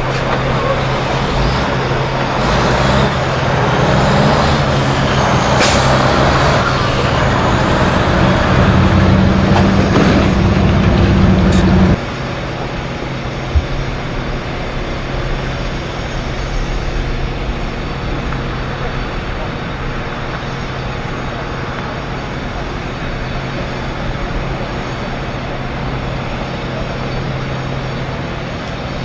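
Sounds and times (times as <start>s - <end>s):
street background: 0.0s - 29.0s
vehicle engine idling: 0.0s - 29.0s.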